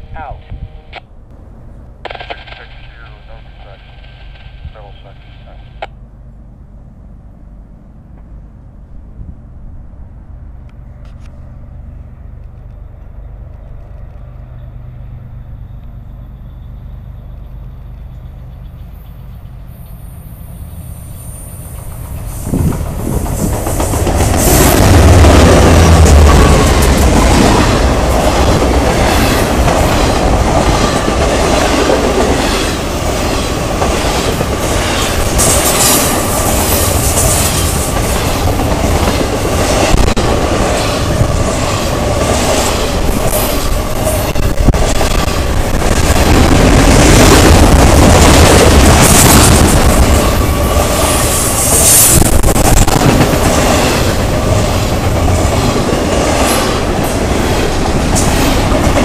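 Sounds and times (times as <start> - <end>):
freight train rumble and rattle: 0.0 - 59.0.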